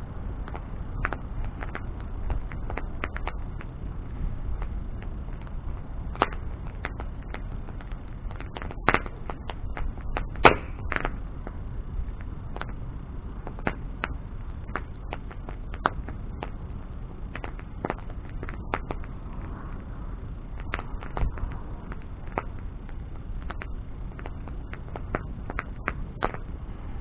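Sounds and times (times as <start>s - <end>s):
bonfire crackles and pops: 0.0s - 27.0s
steady low rumble: 0.0s - 27.0s.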